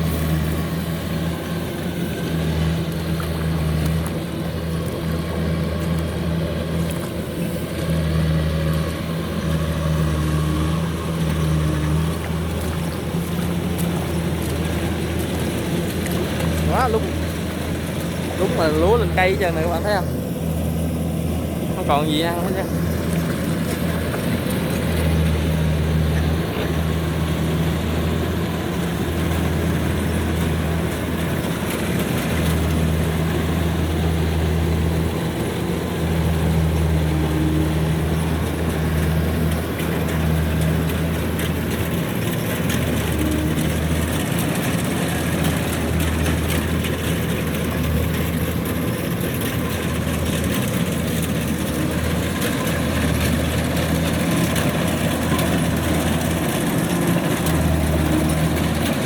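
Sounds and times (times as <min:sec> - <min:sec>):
combine harvester engine hum: 0:00.0 - 0:59.0
machinery rush: 0:00.0 - 0:59.0.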